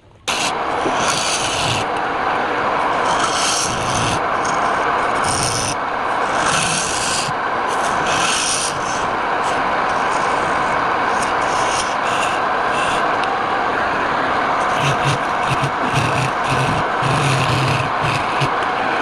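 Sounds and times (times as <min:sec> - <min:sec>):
wood lathe running: 0:00.2 - 0:19.0
tool hissing against spinning wood: 0:00.3 - 0:02.0, 0:03.0 - 0:13.2, 0:14.6 - 0:19.0.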